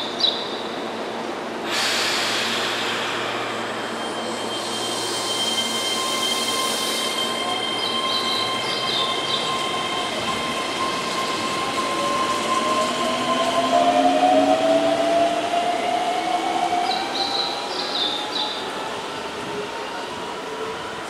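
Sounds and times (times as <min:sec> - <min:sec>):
electric train passing: 0:00.5 - 0:21.0.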